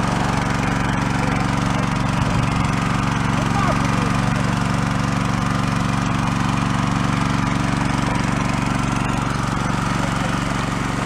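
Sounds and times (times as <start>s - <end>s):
petrol pump engine running: 0.0s - 11.0s.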